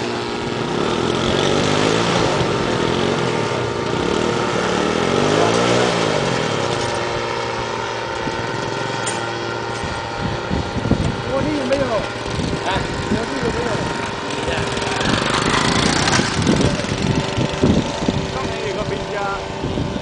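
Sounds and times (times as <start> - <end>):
autogyro buzzing drone: 0.0 - 20.0.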